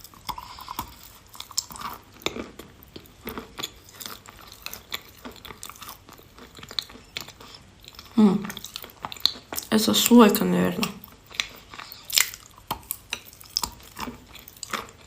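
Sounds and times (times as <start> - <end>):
mouth chewing with wet smacks: 0.0 - 15.0.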